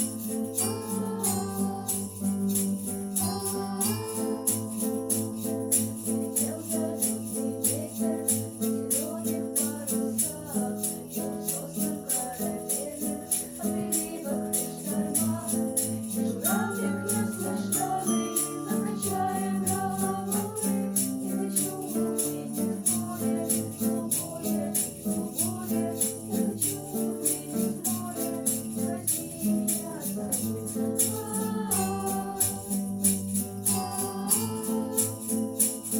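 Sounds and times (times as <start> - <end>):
quick jingling beat: 0.0 - 35.9.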